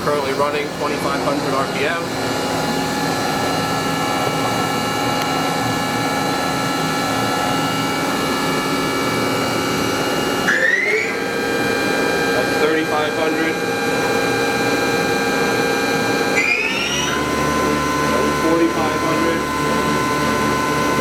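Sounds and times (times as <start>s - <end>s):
machine spindle whine: 0.0s - 21.0s.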